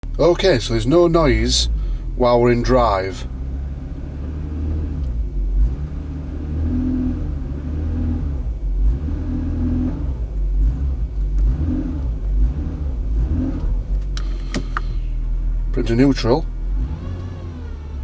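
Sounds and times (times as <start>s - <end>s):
car low rumble: 0.0s - 18.0s.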